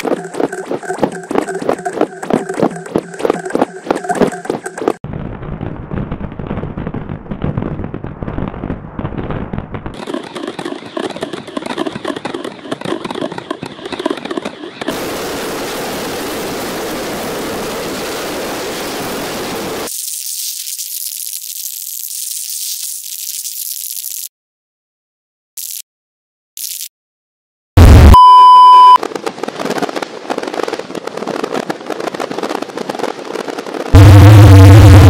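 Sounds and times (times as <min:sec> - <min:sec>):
fireworks crackling and popping: 0:00.0 - 0:12.8, 0:14.8 - 0:24.3, 0:29.0 - 0:35.0.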